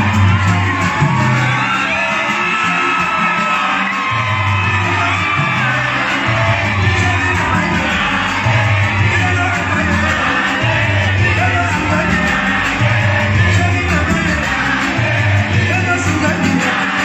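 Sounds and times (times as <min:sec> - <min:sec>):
deep bass line: 0:00.0 - 0:01.7, 0:04.1 - 0:16.8
crowd whooping and shouting: 0:00.0 - 0:17.0
loud live concert music: 0:00.0 - 0:17.0
man singing into microphone: 0:00.0 - 0:17.0.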